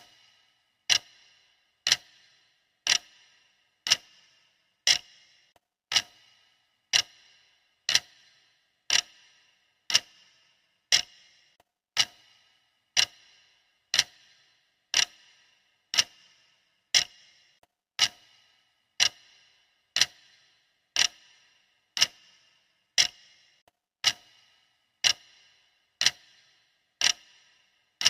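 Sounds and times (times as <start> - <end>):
clock ticking: 0.0 - 28.0.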